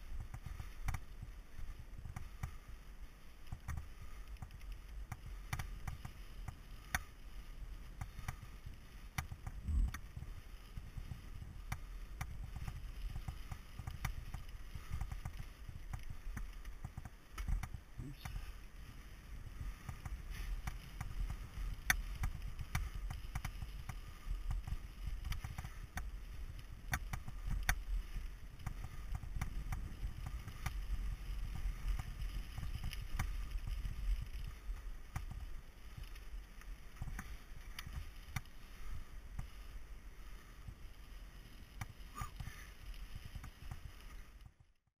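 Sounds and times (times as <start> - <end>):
bike clicks and rattles: 0.0 - 44.8
wind rumbling on microphone: 0.0 - 44.8.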